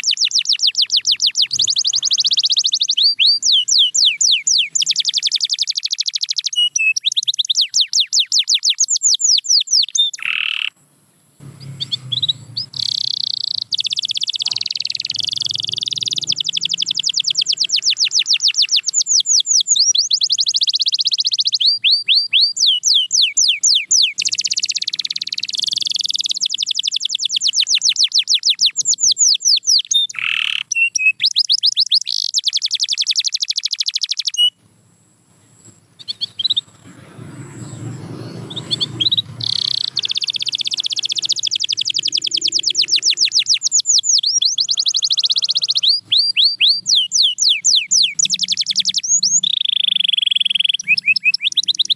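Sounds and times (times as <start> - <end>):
canary singing trills: 0.0 - 34.6, 35.4 - 51.9.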